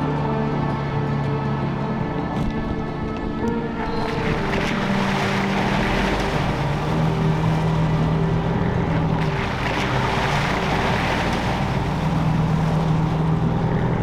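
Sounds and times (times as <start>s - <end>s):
road and wind noise: 0.0s - 14.0s
vehicle engine drone: 0.0s - 14.0s.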